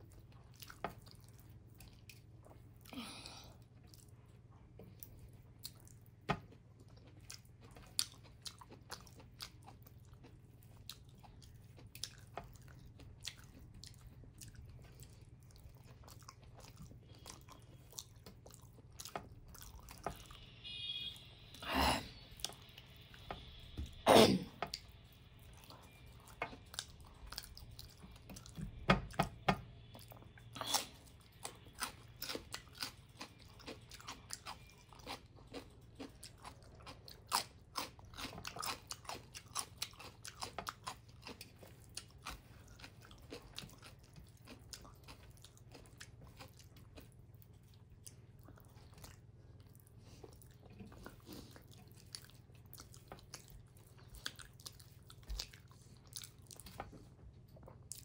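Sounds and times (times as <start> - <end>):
wet chewing clicks and smacks: 0.0 - 2.9, 3.8 - 21.1, 24.6 - 58.0.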